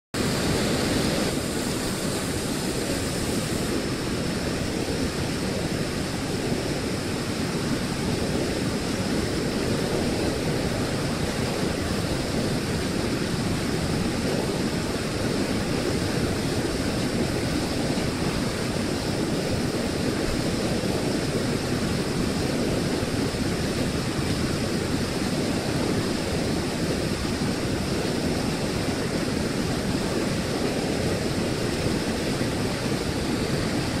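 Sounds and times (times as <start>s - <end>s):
water rushing over a weir: 0.2s - 34.0s.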